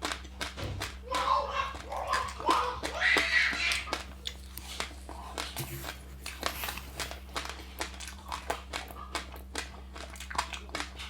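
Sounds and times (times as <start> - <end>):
seeds crunching while chewing: 0.0 - 11.0.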